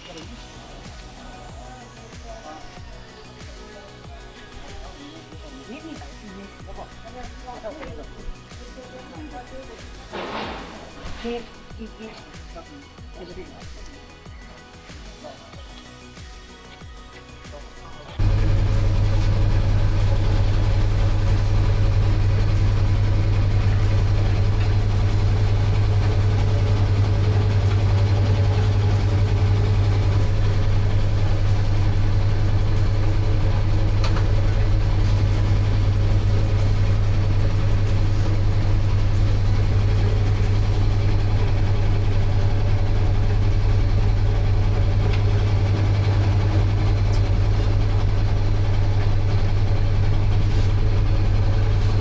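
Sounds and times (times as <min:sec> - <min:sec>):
engine idling: 0:00.0 - 0:14.1, 0:17.7 - 0:52.0.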